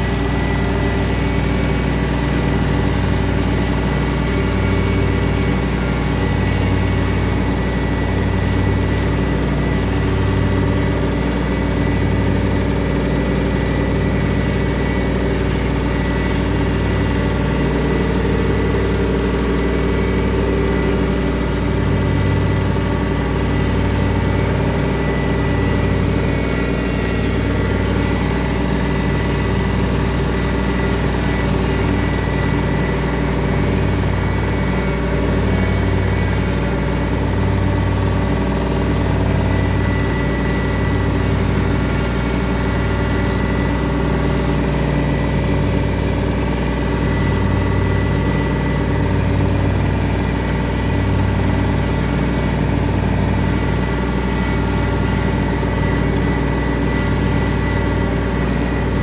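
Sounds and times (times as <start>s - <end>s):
mower high whine: 0.0s - 59.0s
tractor engine running: 0.0s - 59.0s.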